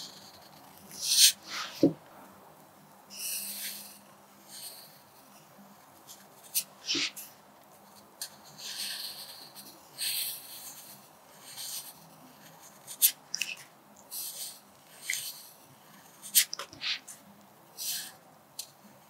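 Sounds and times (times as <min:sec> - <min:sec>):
pencil scratching on paper: 0:00.0 - 0:02.0, 0:03.2 - 0:17.2.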